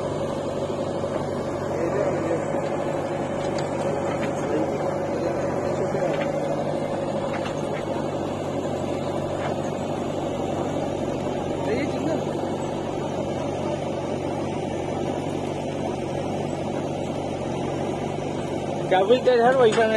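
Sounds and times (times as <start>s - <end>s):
diesel engines humming: 0.0s - 19.9s.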